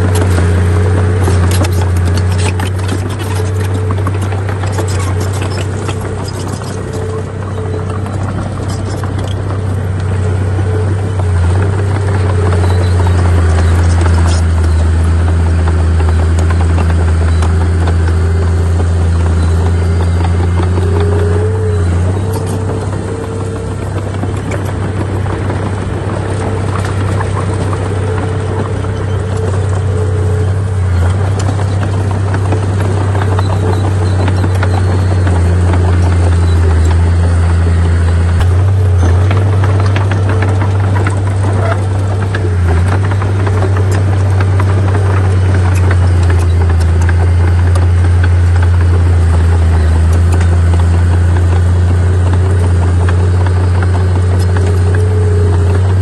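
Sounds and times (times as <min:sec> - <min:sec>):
bulldozer diesel engine: 0:00.0 - 0:56.0
faint clatter: 0:00.0 - 0:56.0.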